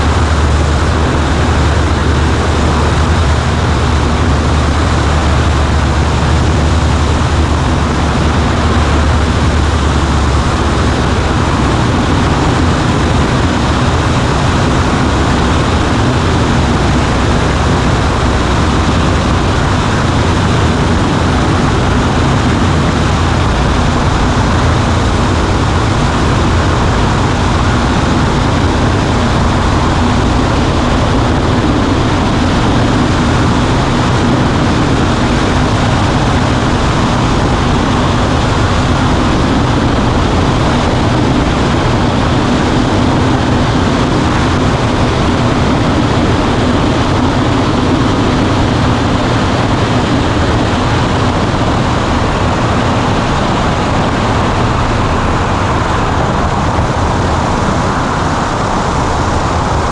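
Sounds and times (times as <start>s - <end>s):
propeller plane engine drone: 0.0s - 59.9s
rushing wind noise: 0.0s - 59.9s.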